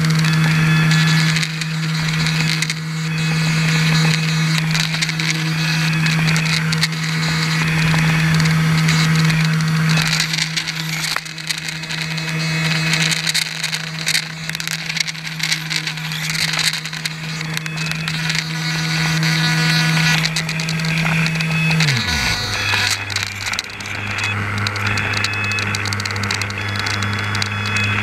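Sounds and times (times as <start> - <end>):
electric motor and propeller: 0.0 - 28.0.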